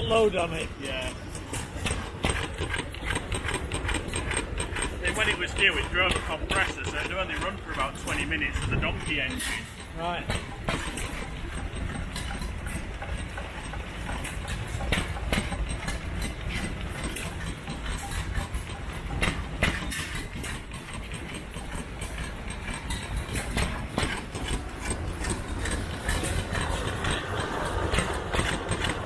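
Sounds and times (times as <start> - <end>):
oil engine running: 0.0 - 29.0
sharp irregular clicks: 0.0 - 29.0.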